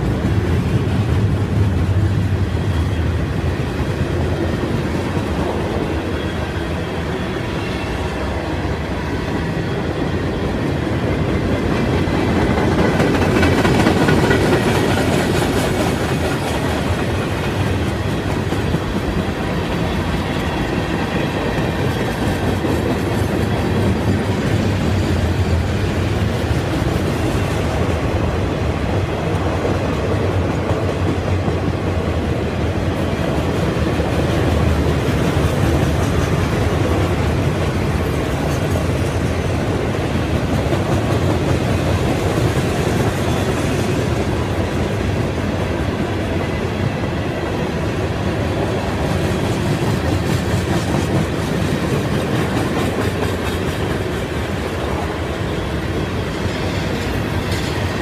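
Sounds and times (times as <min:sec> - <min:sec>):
steel train wheels rumbling on rails: 0:00.0 - 0:58.0.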